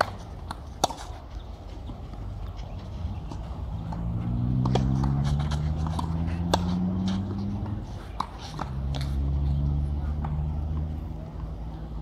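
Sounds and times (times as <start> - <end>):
tennis balls struck by rackets: 0.0 - 12.0.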